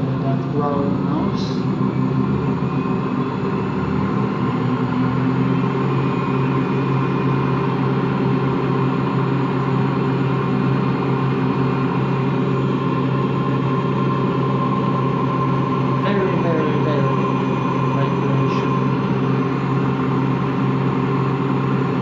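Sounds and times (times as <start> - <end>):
washing machine spin cycle hum: 0.0 - 22.0.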